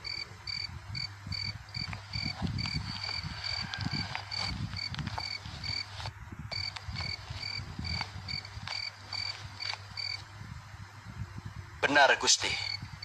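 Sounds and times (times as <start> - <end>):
cricket chirping: 0.0 - 10.3, 12.6 - 13.0.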